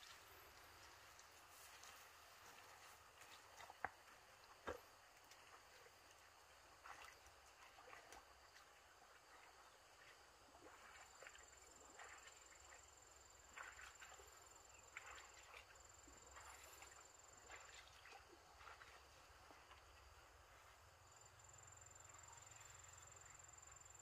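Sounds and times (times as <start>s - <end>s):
soft footsteps in wet grass: 0.0s - 24.0s.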